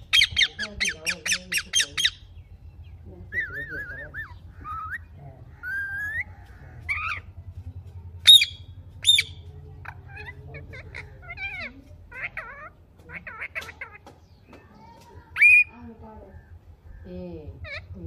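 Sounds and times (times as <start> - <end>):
parakeets calling: 0.0 - 18.0.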